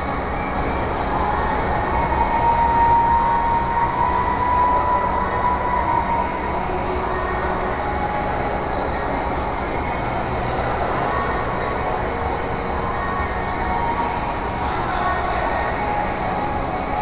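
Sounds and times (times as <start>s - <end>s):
shopping mall indoor rumble: 0.0s - 17.0s.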